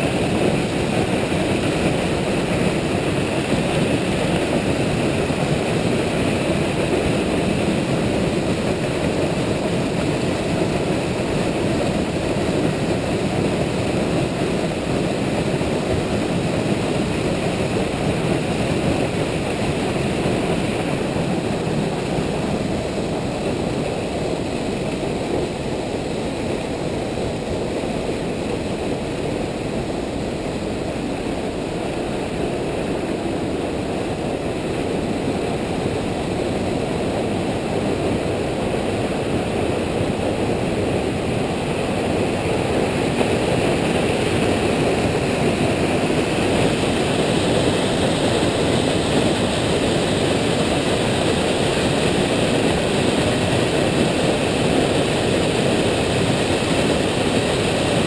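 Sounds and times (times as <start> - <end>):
water cascading down spillway: 0.0 - 58.0.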